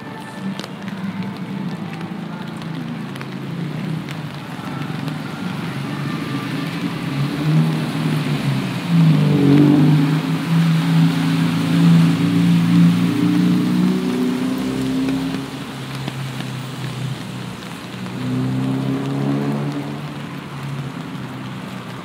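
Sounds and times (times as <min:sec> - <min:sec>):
rain hissing: 0:00.0 - 0:22.0.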